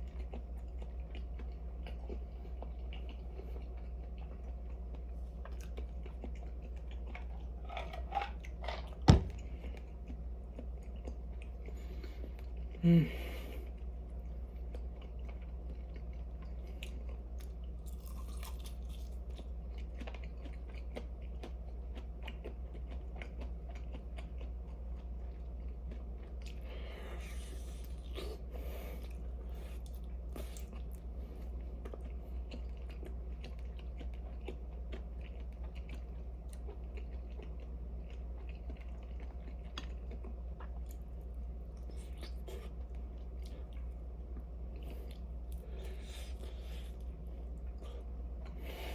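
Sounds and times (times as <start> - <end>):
person chewing and biting food: 0.0 - 48.9.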